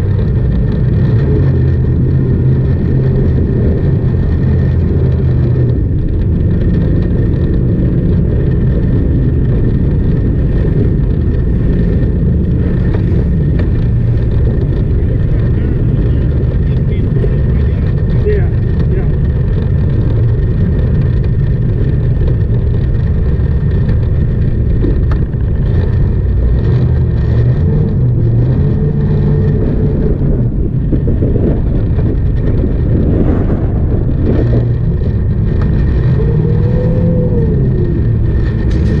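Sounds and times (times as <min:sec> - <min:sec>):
jet boat engine rumbling: 0:00.0 - 0:39.0
wind noise: 0:00.0 - 0:39.0.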